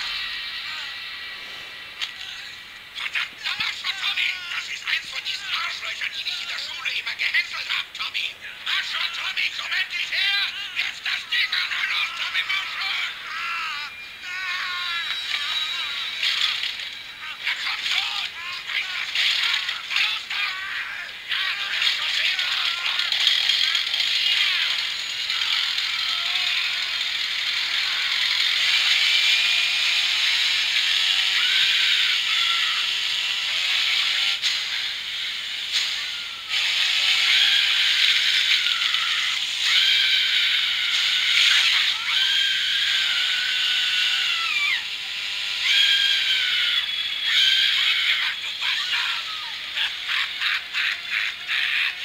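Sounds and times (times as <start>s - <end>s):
horror film soundtrack through tv speaker: 0.0s - 52.0s.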